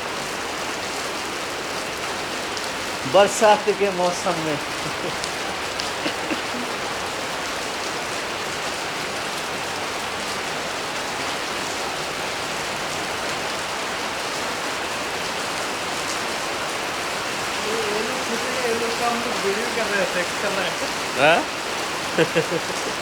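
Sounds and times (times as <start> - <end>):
heavy rain splashing: 0.0 - 23.0.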